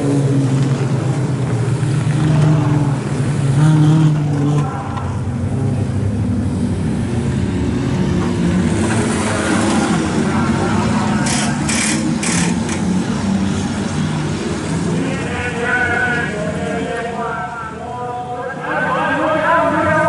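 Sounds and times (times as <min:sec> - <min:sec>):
race car engines: 0:00.0 - 0:20.0.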